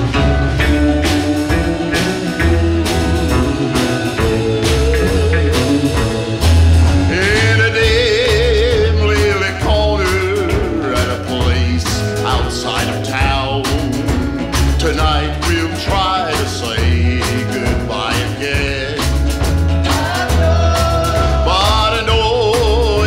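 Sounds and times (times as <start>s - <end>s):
drums: 0.0s - 23.0s
strummed acoustic guitar: 0.0s - 23.0s
upright bass: 0.0s - 23.0s.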